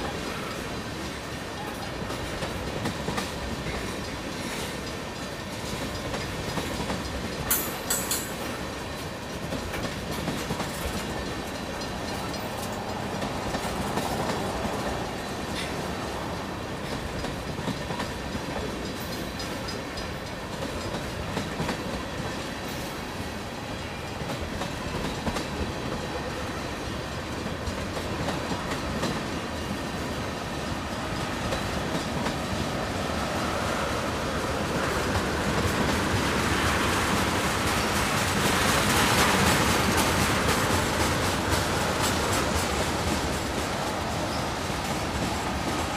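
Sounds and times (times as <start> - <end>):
freight train wheels over rail joints: 0.0 - 45.9.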